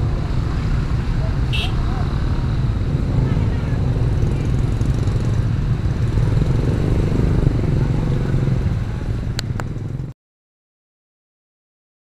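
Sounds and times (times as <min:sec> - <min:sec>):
motorcycle engines rumbling: 0:00.0 - 0:10.1.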